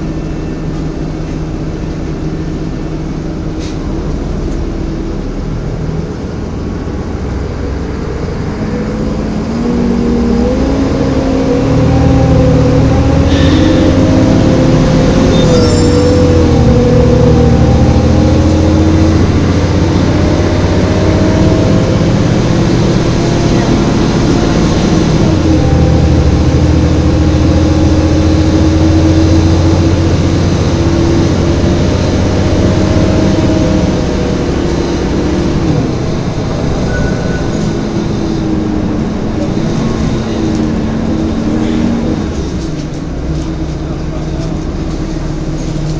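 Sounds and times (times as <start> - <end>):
bus diesel engine drone: 0.0 - 45.9
drivetrain whine: 0.0 - 45.9.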